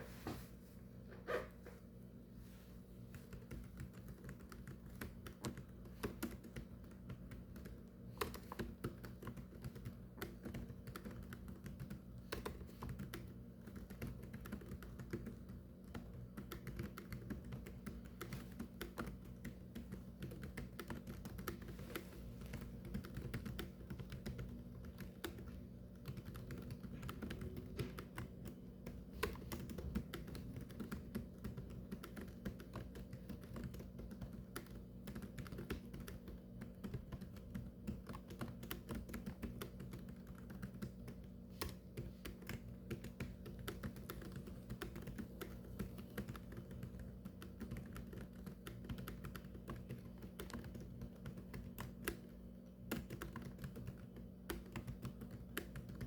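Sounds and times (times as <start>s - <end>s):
low steady hum: 0.0s - 56.0s
typing on a keyboard: 3.1s - 56.0s.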